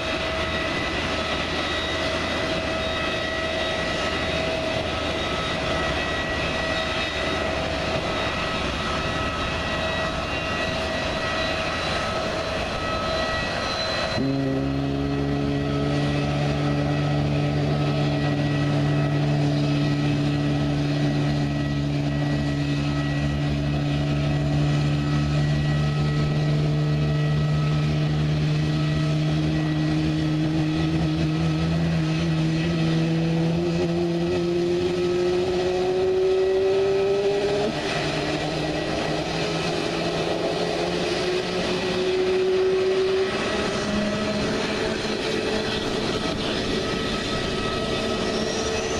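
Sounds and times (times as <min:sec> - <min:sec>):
jet engine spooling up: 0:00.0 - 0:48.9.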